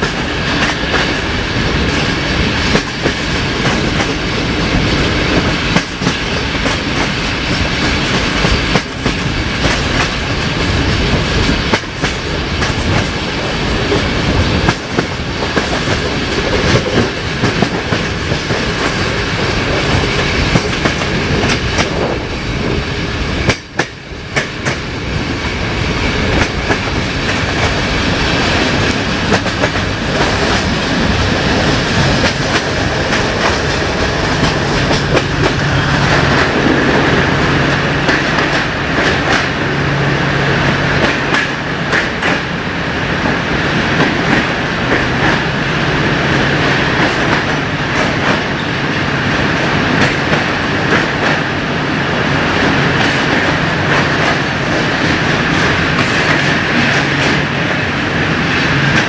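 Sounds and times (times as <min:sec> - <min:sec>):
train wheels rolling rumble: 0:00.0 - 0:59.0.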